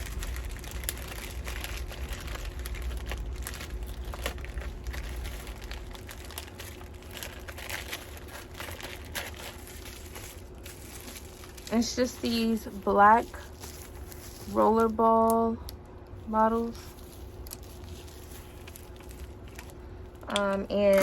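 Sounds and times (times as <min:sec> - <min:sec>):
plastic bubble packaging crinkling: 0:00.0 - 0:21.0.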